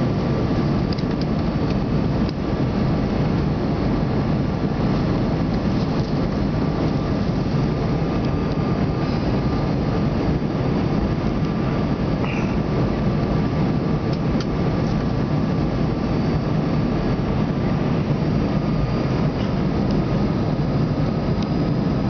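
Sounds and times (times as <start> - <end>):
airliner cabin engine noise: 0.0 - 22.0.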